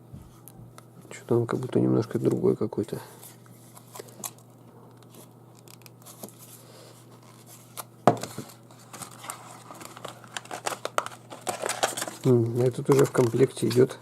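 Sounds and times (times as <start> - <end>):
packaging crinkling and rustling: 2.1 - 14.0.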